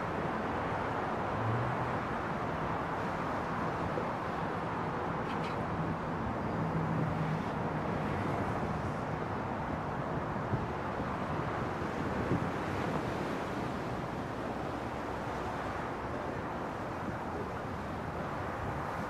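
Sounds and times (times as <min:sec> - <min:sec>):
beach ambience rush of noise: 0:00.0 - 0:19.0.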